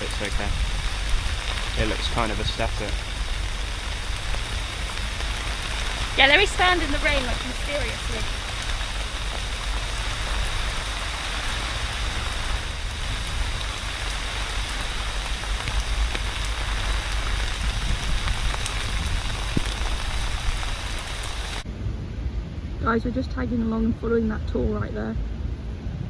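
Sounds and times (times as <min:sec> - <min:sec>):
heavy rain pouring: 0:00.0 - 0:25.1
low rumble: 0:00.0 - 0:26.0.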